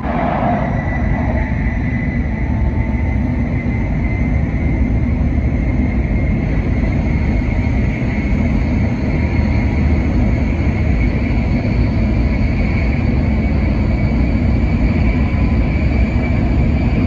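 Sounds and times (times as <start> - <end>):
faint high whine: 0.0 - 17.0
train running gear rumble: 0.0 - 17.0.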